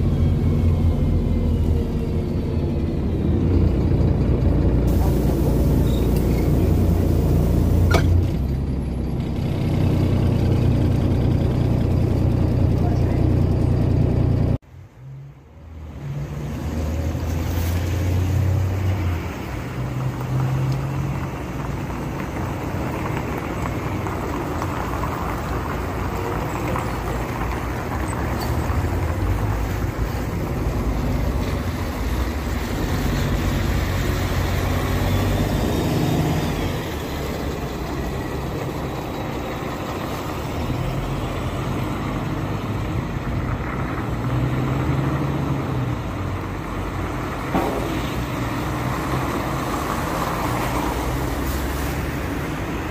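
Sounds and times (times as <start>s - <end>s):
bus diesel engine: 0.0s - 52.9s
passing street traffic: 0.0s - 52.9s.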